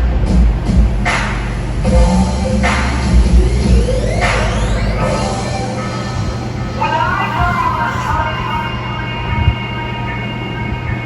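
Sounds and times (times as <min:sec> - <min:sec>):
low droning hum: 0:00.0 - 0:11.0.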